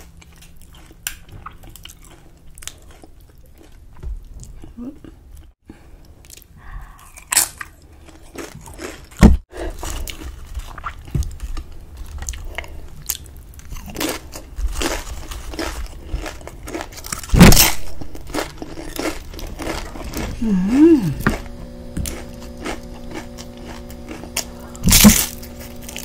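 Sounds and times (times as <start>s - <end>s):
tortilla chips crunching: 0.0s - 3.9s, 6.3s - 26.0s.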